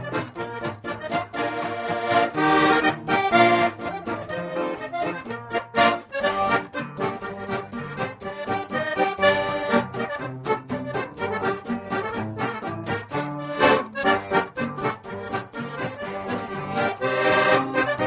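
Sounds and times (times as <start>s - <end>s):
lively instrumental music: 0.0s - 18.0s.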